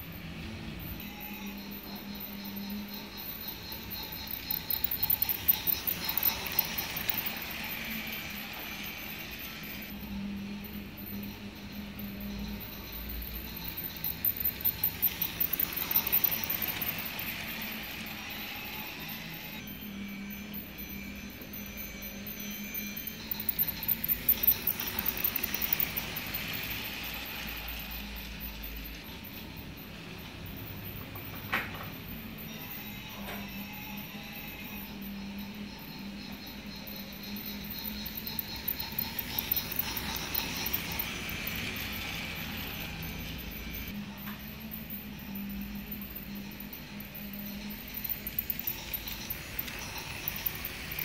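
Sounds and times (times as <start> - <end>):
toy train rolling whirr: 0.0 - 51.0
toy train wheels clicking: 1.0 - 10.3, 11.1 - 19.9, 20.6 - 31.4, 32.1 - 44.0, 46.0 - 51.0.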